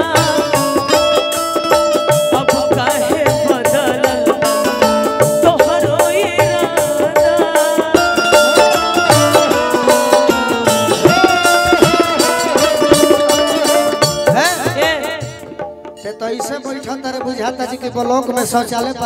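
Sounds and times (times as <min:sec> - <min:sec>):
folk stage band music: 0:00.0 - 0:19.0
steady drum beat: 0:00.0 - 0:19.0.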